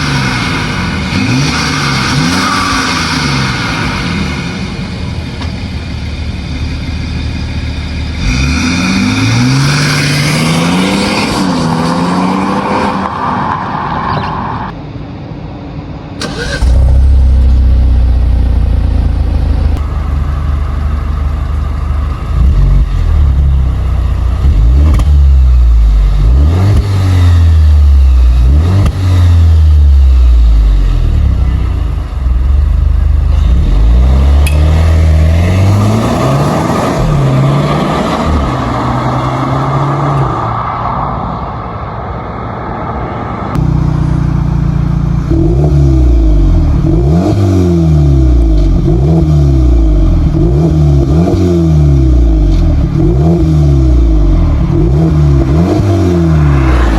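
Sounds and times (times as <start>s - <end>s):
car engine revving: 0.0s - 13.1s, 16.2s - 40.8s, 43.2s - 56.9s.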